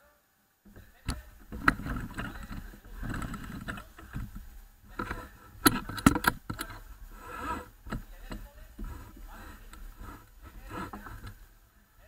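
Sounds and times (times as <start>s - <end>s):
clothing brushing microphone: 0.7s - 11.6s.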